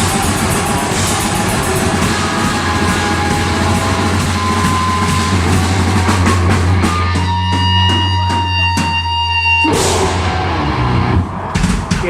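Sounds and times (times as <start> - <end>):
distorted electric guitar: 0.0 - 11.4
drum kit: 0.0 - 12.0.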